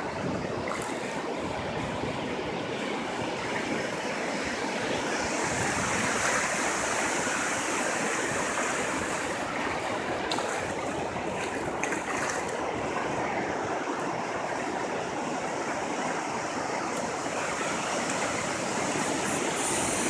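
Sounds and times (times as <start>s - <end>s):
ocean surf washing onto beach: 0.0s - 20.0s.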